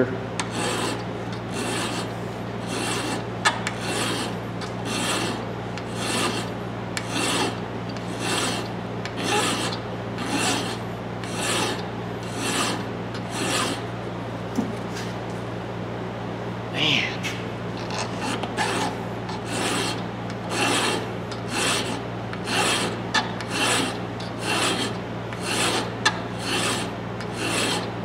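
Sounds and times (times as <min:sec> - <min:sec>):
hand file rasping on steel: 0:00.4 - 0:13.8, 0:18.1 - 0:27.9.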